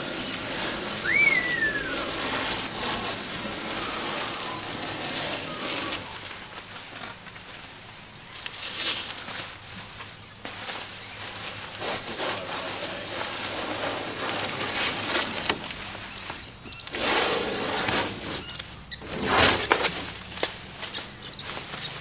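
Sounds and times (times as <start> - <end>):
masking tape peeling: 0.0 - 7.8, 11.3 - 21.7
plastic sheeting crinkling: 0.0 - 22.0.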